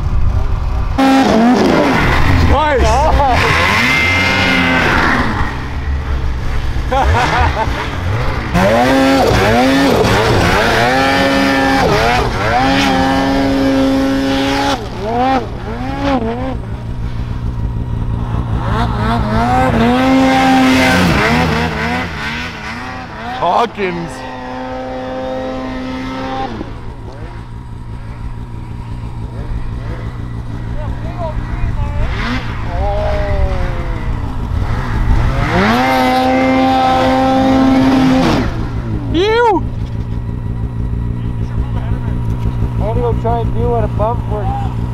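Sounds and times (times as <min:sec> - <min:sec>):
low rumble: 0:00.0 - 0:44.9
snowmobile engine revving: 0:00.0 - 0:44.9.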